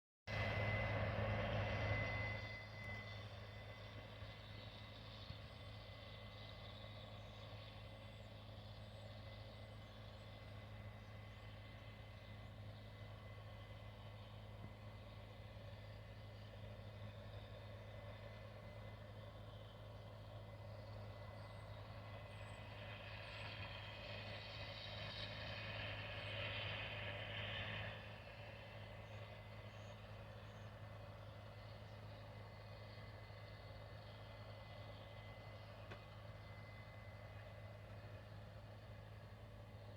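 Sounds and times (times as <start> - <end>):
harvest machinery drone: 0.3 - 39.9.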